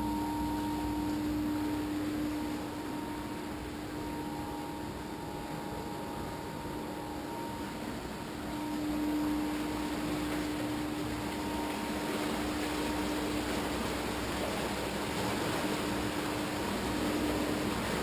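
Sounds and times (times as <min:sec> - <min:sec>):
low machine hum: 0:00.0 - 0:18.0
churning water rushing: 0:00.6 - 0:18.0.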